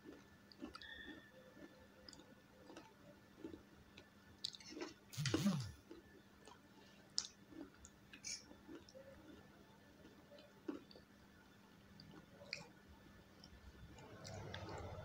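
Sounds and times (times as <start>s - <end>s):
chewing noodles: 0.0s - 11.1s, 12.0s - 12.8s, 13.4s - 15.0s.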